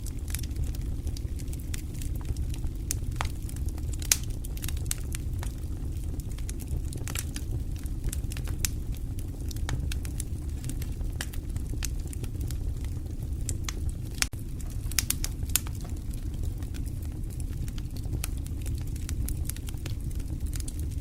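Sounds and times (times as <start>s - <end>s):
fire flames rumbling: 0.0s - 21.0s
logs crackling and popping: 0.0s - 21.0s.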